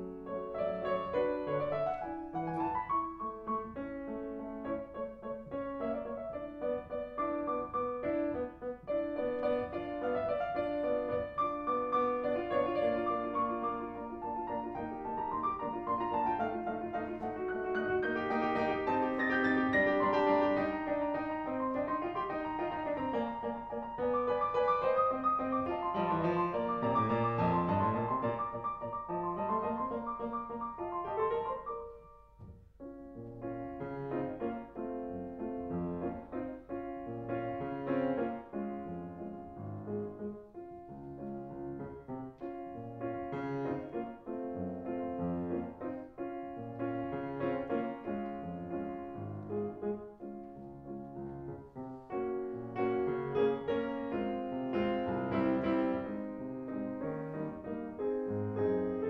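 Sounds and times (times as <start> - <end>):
background piano music: 0.0 - 59.0.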